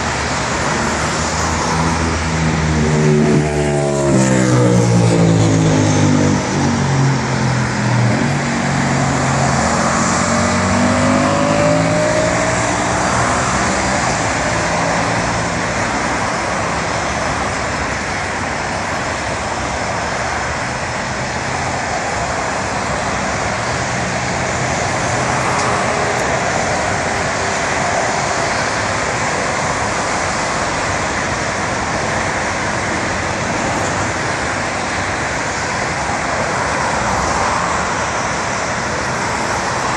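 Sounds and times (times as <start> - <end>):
car passing by: 0.0 - 39.9
highway traffic noise: 0.0 - 39.9.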